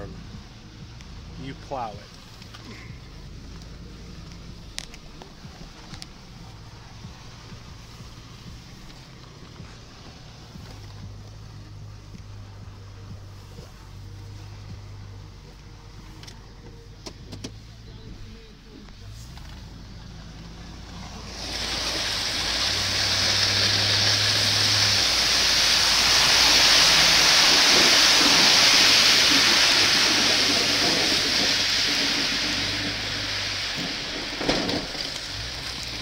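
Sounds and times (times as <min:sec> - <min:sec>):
plow blade scraping pavement: 0:00.0 - 0:36.0
vehicle engine running: 0:00.0 - 0:36.0.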